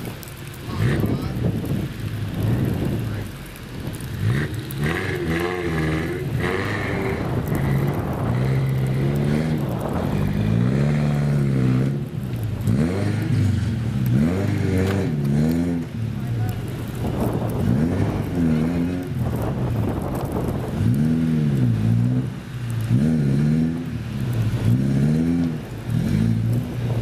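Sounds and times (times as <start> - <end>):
car engine revving: 0.5 - 27.0.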